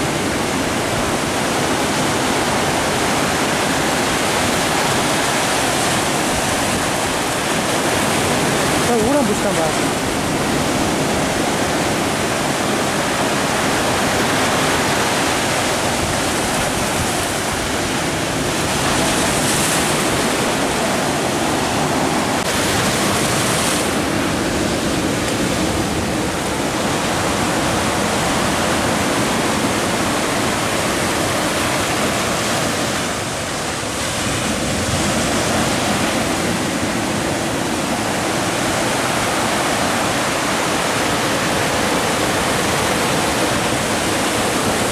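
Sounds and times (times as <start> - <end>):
sea waves breaking on boulders: 0.0 - 44.9.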